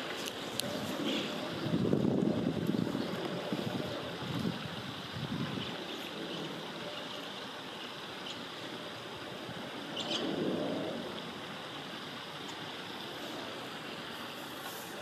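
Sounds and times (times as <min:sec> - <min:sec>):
flowing river: 0:00.0 - 0:15.0.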